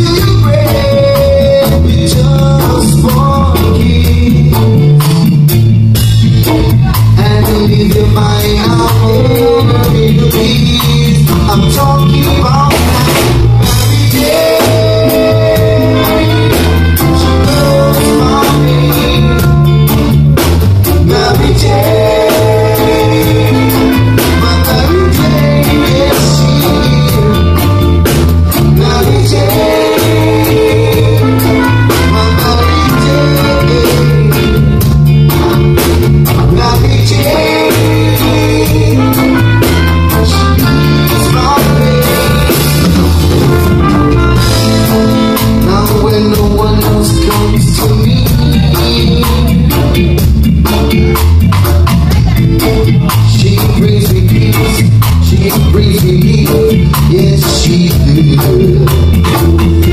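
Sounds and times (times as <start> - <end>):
lead singer singing: 0.0 - 5.1, 6.4 - 35.0, 35.8 - 59.9
drum kit: 0.0 - 59.9
electric bass line: 0.0 - 59.9
electric guitars: 0.0 - 59.9
reggae band playing: 0.0 - 59.9.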